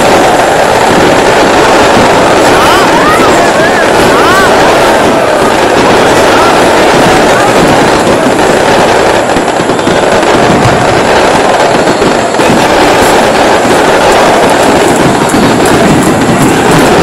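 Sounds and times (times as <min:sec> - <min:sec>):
football crowd roaring: 0:00.0 - 0:17.0.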